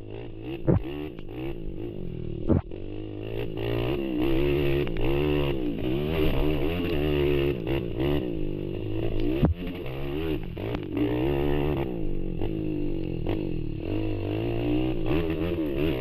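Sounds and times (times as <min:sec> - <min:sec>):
atv engines revving: 0:00.0 - 0:16.0.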